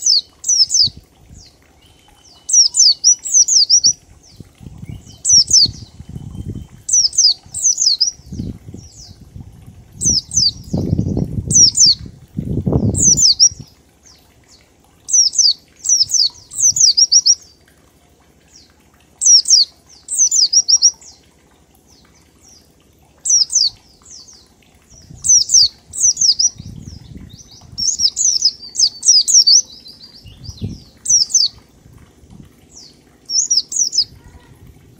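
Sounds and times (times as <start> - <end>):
white-eye bird singing: 0.0 - 9.3, 10.0 - 12.1, 12.7 - 17.6, 18.5 - 21.3, 21.9 - 31.7, 32.6 - 34.6.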